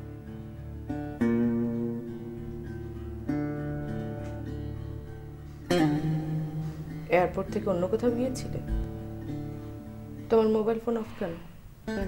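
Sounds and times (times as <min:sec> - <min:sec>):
acoustic guitar chords ringing: 0:00.0 - 0:12.0.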